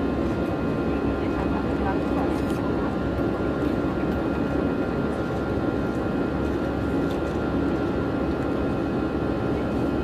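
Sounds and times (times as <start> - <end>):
jet engines and rushing air: 0.0 - 10.0.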